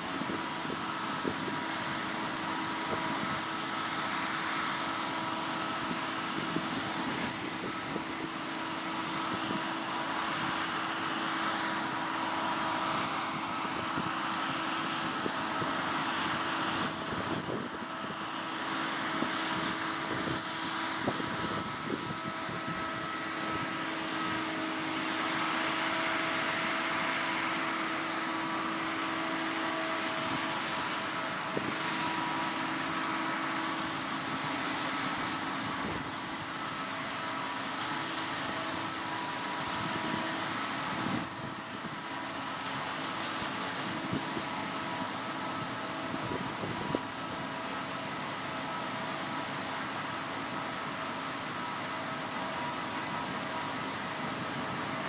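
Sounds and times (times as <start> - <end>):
combine harvester humming: 0.0 - 55.0.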